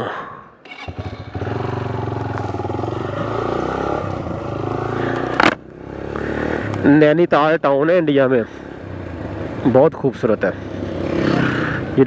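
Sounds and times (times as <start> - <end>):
motorcycle engine: 0.6 - 12.0.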